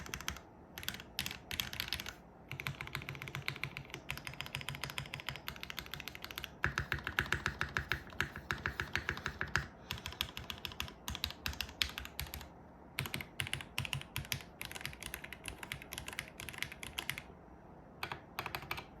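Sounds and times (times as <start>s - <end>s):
typing on mechanical keyboard: 0.0s - 17.3s, 18.0s - 19.0s.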